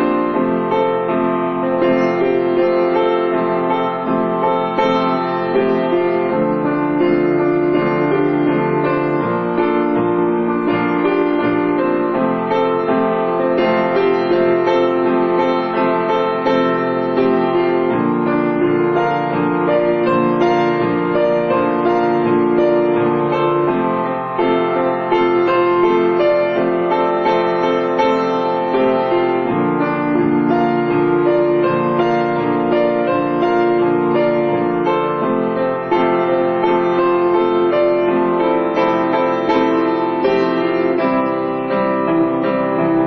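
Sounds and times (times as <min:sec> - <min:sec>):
piano music: 0:00.0 - 0:43.0.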